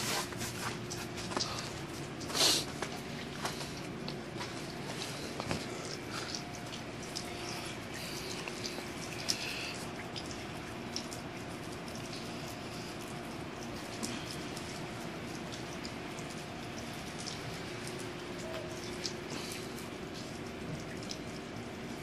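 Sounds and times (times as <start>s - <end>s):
faint steady hum: 0.0s - 22.0s
water drops pattering on slush: 0.0s - 22.0s.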